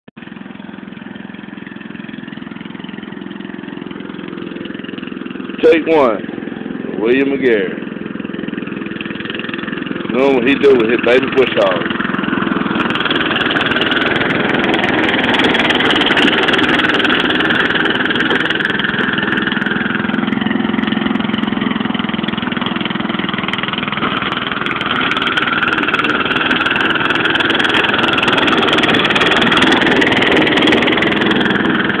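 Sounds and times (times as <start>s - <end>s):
mower engine running: 0.2s - 32.0s.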